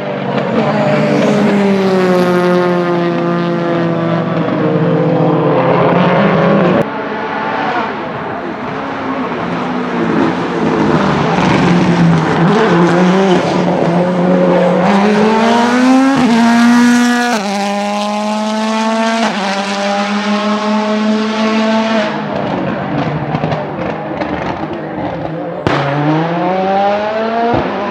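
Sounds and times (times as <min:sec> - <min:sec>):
rally car engine accelerating: 0:00.0 - 0:27.9.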